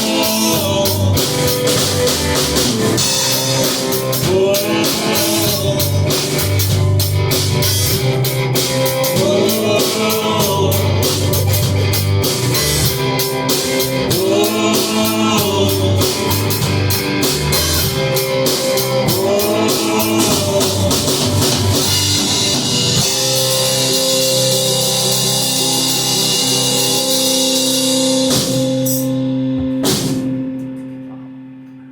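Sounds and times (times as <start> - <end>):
rock band playing: 0.0 - 31.8
bending guitar notes: 0.0 - 31.9.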